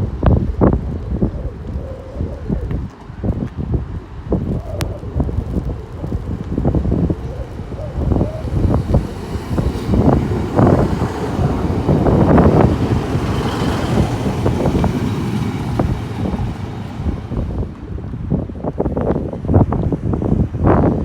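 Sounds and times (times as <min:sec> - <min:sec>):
low uneven rumble: 0:00.0 - 0:20.5
wind buffeting microphone: 0:00.0 - 0:21.0.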